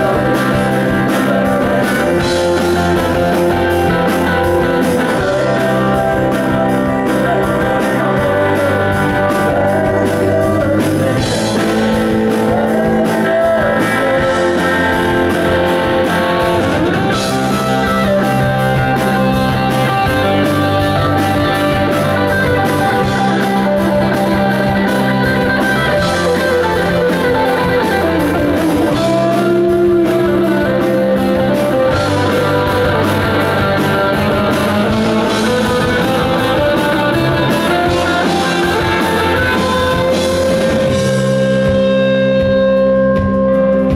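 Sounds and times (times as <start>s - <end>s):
bass notes: 0.0s - 43.9s
electric guitar lead: 0.0s - 43.9s
rock band playing: 0.0s - 43.9s.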